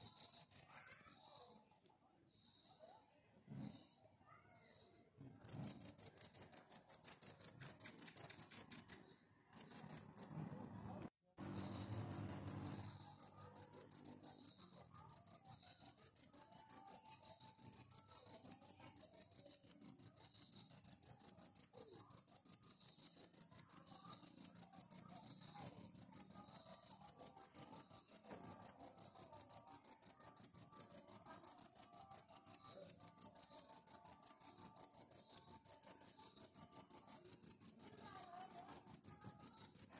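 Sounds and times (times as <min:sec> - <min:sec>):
cricket chirping: 0:00.0 - 0:10.4, 0:11.4 - 0:39.9.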